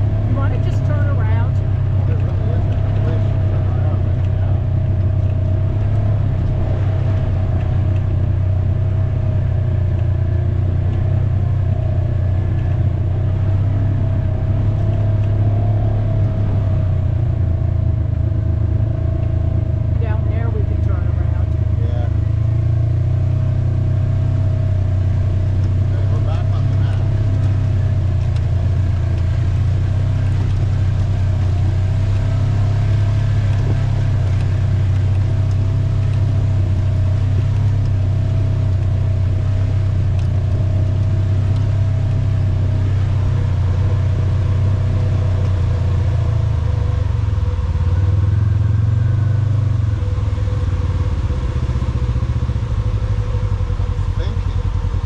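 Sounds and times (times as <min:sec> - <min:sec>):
quad engine running: 0:00.0 - 0:55.0.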